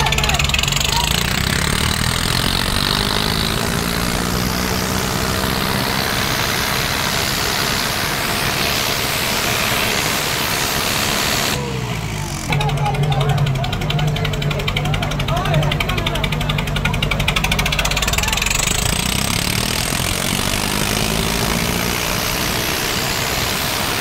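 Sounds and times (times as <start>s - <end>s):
tractor diesel engine labouring: 0.0s - 24.0s.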